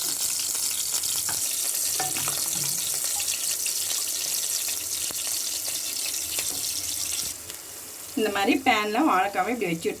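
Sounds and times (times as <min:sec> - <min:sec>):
banana slices frying in oil: 0:00.0 - 0:10.0.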